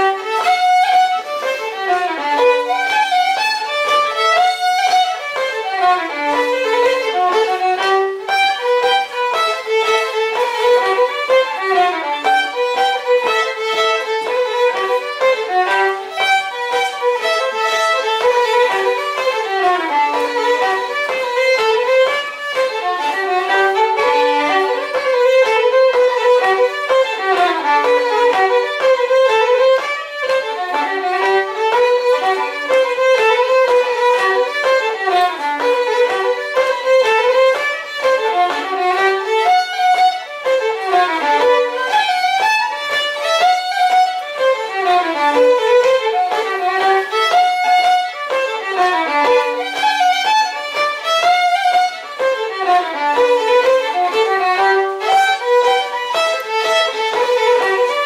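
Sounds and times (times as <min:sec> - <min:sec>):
fiddle playing folk dance tune: 0:00.0 - 0:58.0.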